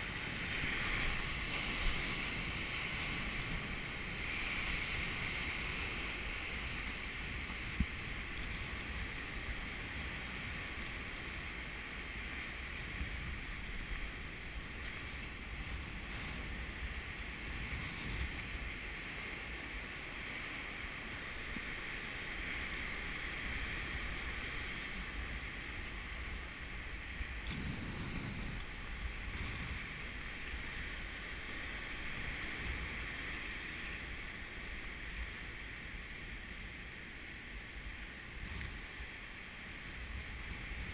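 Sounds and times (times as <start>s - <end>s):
wind noise on microphone: 0.0s - 36.7s, 37.6s - 40.9s
surf breaking over rocks: 0.0s - 40.9s.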